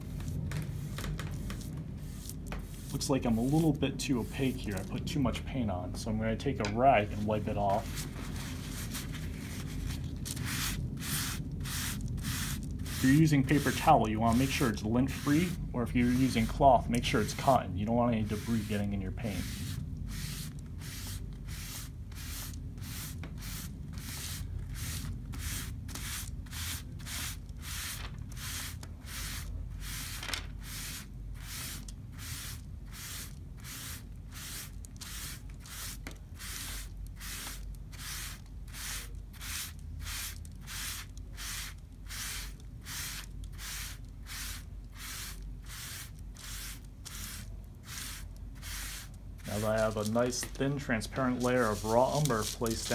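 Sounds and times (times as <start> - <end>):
rag rubbing on paper: 0.2 - 4.9, 7.5 - 52.9.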